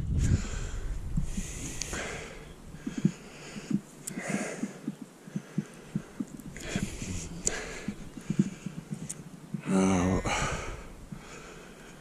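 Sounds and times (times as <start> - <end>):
wind on microphone: 0.0 - 11.3.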